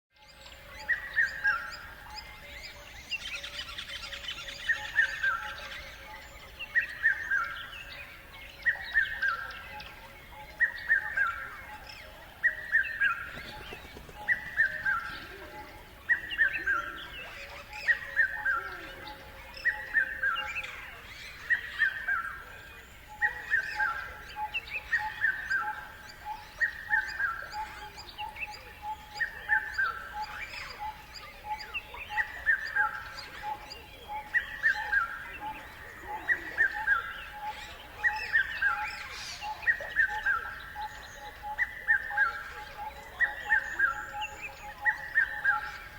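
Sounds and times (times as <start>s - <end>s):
birds chirping: 0.3s - 45.9s.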